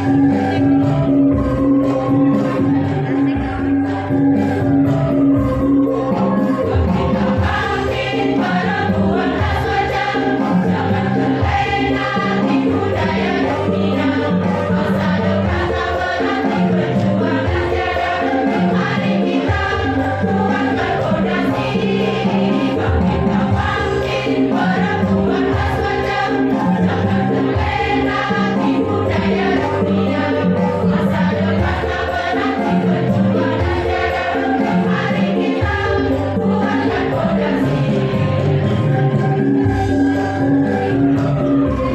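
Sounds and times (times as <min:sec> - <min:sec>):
instrumental accompaniment: 0:00.0 - 0:41.9
repeating bass line: 0:00.0 - 0:41.9
women's choir singing a hymn: 0:00.0 - 0:41.9.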